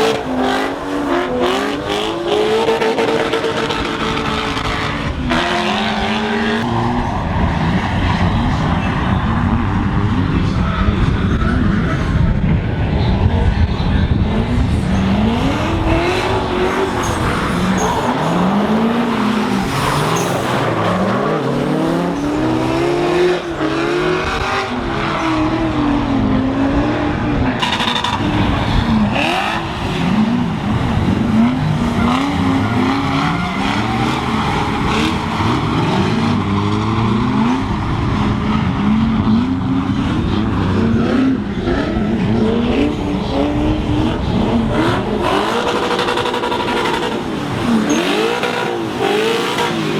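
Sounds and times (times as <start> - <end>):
tyres skidding: 0.0 - 25.7, 27.2 - 49.9
car engines revving: 0.0 - 49.9.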